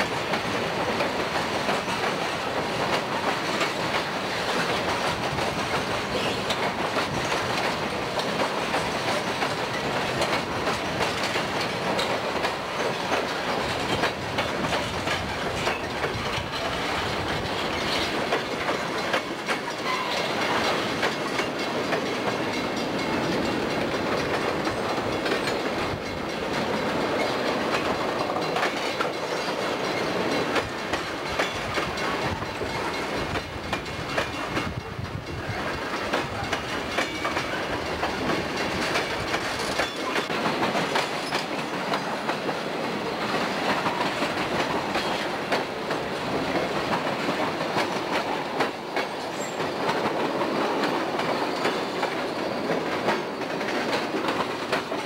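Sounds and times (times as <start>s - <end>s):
steel wheels clattering on rails: 0.0s - 55.0s
wheels clicking over rail joints: 0.0s - 55.0s.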